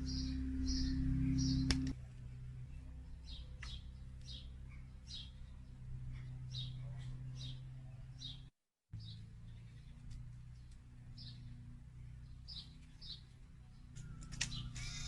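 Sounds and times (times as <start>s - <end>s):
small bird chirping: 0.0s - 2.0s, 2.6s - 15.0s
steady low hum: 0.0s - 15.0s.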